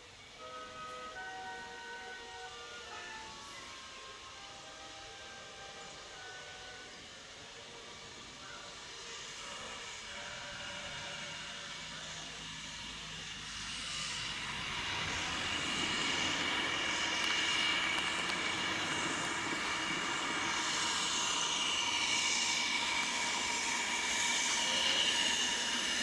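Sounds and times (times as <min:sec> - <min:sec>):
train running by: 0:00.0 - 0:26.0
high whining ring: 0:00.2 - 0:26.0.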